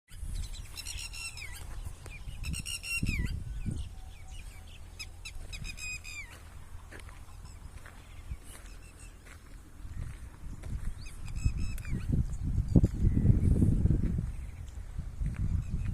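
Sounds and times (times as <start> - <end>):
bird calling: 0.1 - 13.6
steady low rumble: 1.6 - 15.9.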